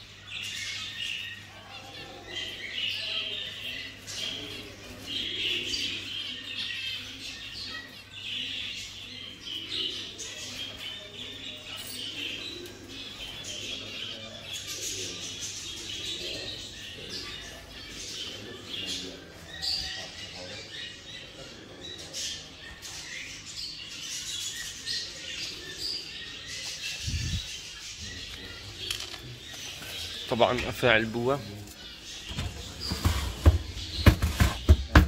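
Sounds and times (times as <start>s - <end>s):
cage birds chirping: 0.0s - 35.0s.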